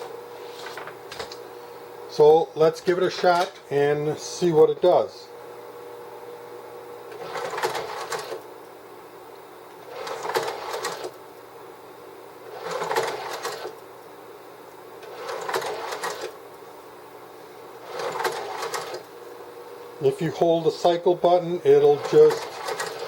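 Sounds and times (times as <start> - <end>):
projector fan humming: 0.0 - 23.0.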